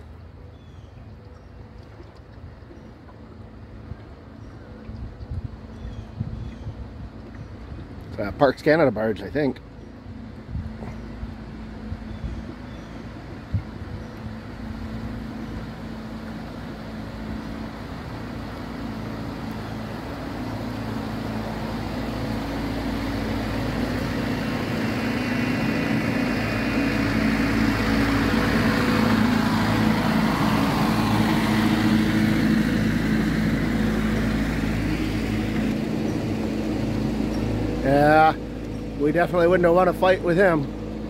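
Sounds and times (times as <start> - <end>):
barge engine running: 0.0 - 41.0.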